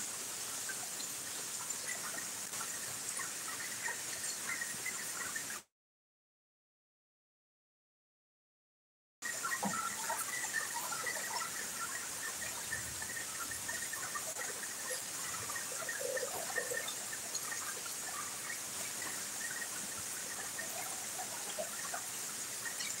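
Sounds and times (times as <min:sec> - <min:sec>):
rain falling on leafy trees: 0:00.0 - 0:05.7, 0:09.2 - 0:23.0.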